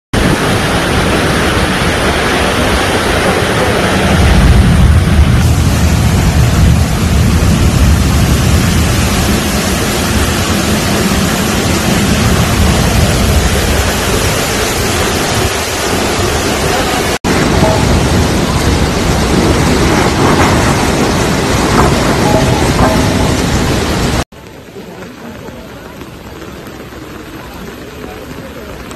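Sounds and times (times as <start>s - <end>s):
floodwater rushing and churning: 0.2s - 28.9s.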